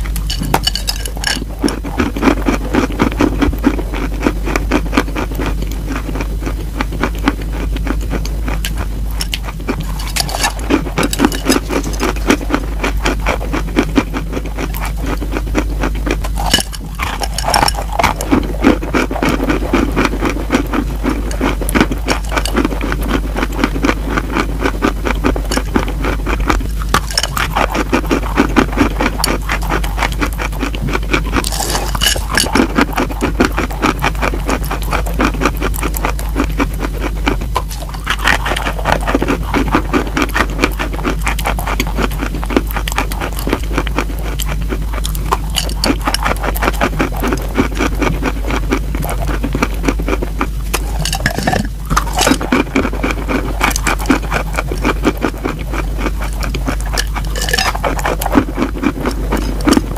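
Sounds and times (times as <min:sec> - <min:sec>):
crunching chalk: 0:00.0 - 0:59.9
steady low hum: 0:00.0 - 0:59.9.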